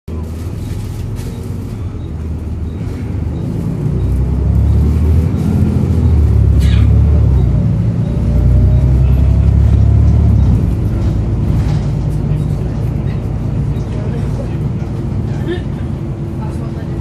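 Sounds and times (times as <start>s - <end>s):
bus diesel engine rumble: 0.1s - 17.0s.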